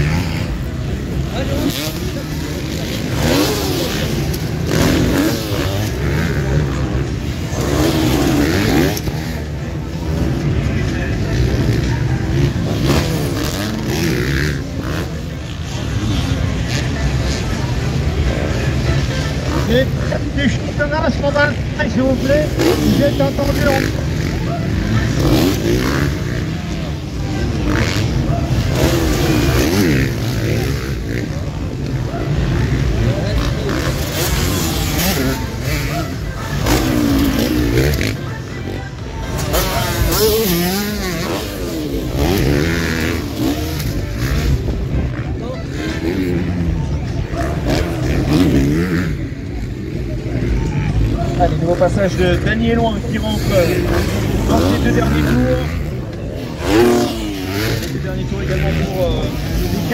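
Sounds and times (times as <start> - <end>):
motocross engines revving: 0.0 - 59.9.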